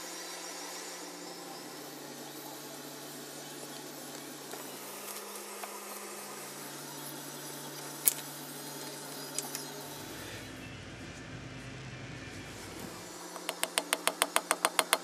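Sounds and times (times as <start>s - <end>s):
steady low hum: 1.4s - 14.0s.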